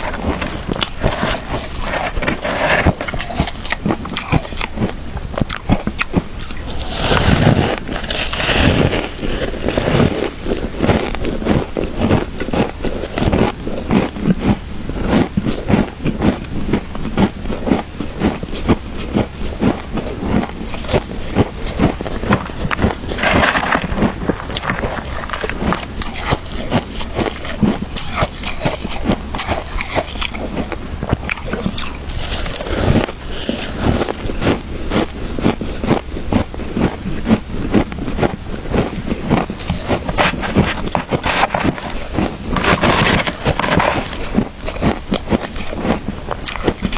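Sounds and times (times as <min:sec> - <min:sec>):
shaved ice being chewed: 0:00.0 - 0:46.9.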